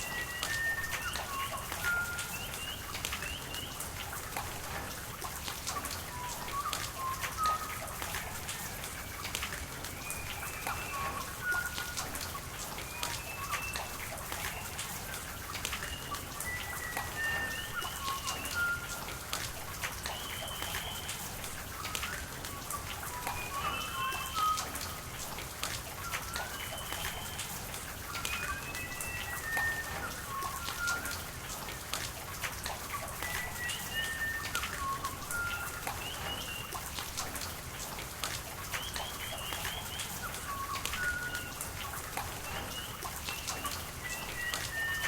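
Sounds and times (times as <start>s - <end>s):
raindrops ticking on surfaces: 0.0s - 45.0s
running water: 0.0s - 45.0s
steady rain: 0.0s - 45.0s.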